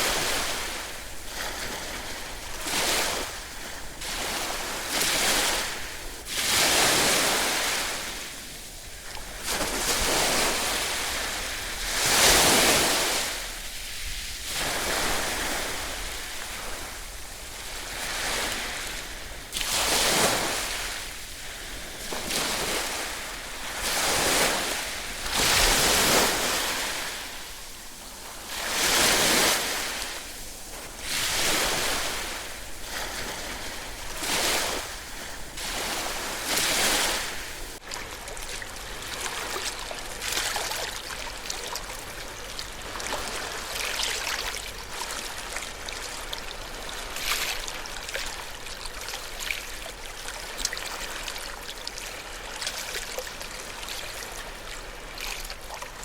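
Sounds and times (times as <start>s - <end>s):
fizzing wash of water: 0.0s - 56.0s
ocean waves washing onto shore: 0.0s - 56.0s.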